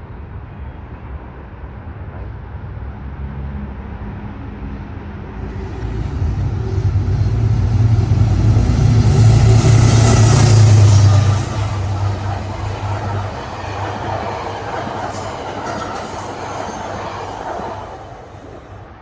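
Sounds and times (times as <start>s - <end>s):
train approaching: 0.6s - 19.0s.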